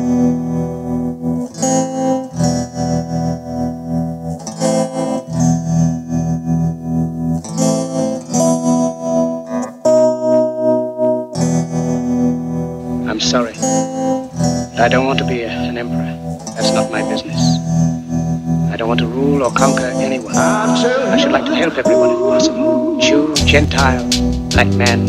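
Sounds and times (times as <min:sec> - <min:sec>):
instrumental background music: 0:00.0 - 0:25.0.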